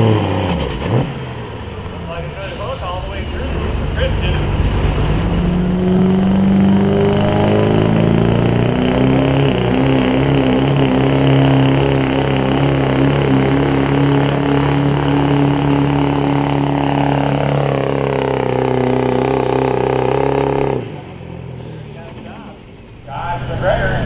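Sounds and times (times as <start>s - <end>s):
diesel truck engine under heavy load: 0.0s - 24.0s.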